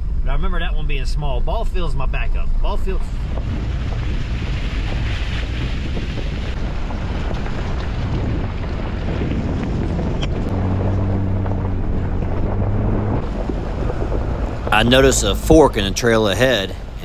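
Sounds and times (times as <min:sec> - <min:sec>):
low engine hum: 0:00.0 - 0:17.0
road and tyre noise: 0:00.0 - 0:17.0
wind buffeting microphone: 0:02.4 - 0:17.0.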